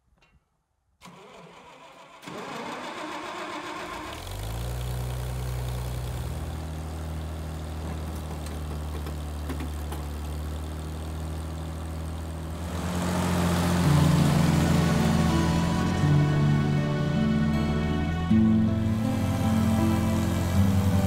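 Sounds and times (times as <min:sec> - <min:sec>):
tractor engine idling: 0:01.0 - 0:21.0.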